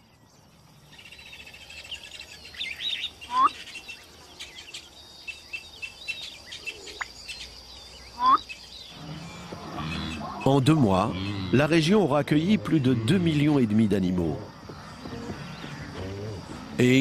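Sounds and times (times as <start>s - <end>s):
loud sweeping bird calls: 0.0s - 12.0s, 14.4s - 17.0s
birds chirping and trilling: 0.0s - 17.0s.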